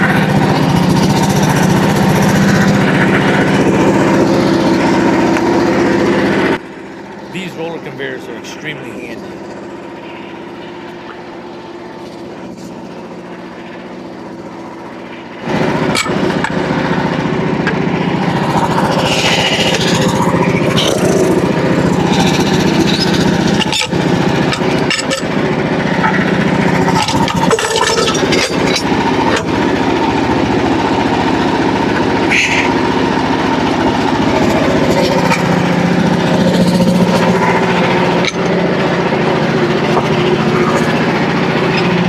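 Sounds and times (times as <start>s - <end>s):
band saw cutting log: 0.0s - 6.6s, 7.3s - 42.0s
gasoline engine throttling up: 0.0s - 42.0s.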